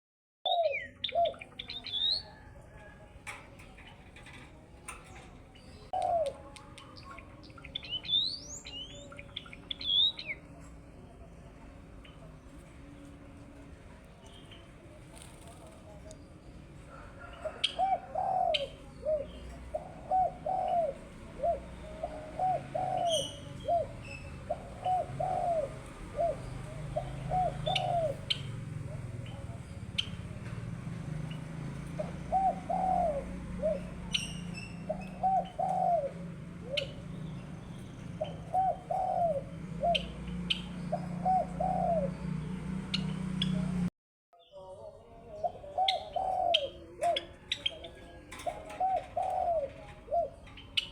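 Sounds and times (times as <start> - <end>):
birds cooing: 0.4 - 50.9.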